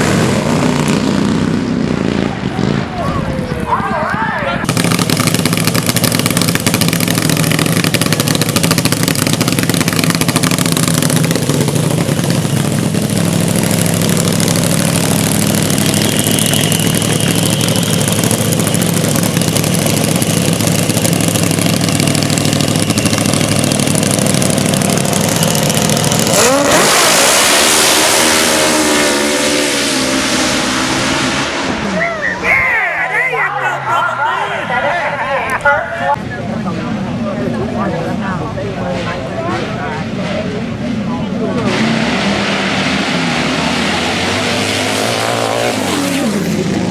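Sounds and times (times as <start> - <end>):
drag racing motorcycle engine: 0.0 - 46.9.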